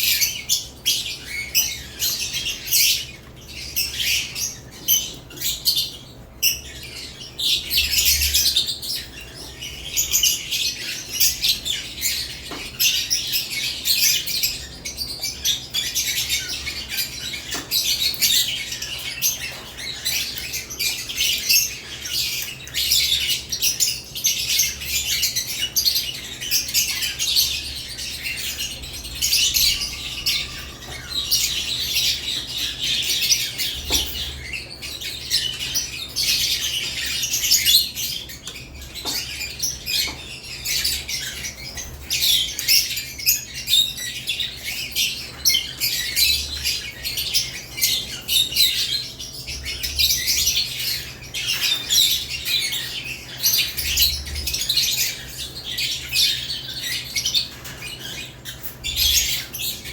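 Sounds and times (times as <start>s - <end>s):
lovebirds chirping and squawking: 0.0s - 59.9s.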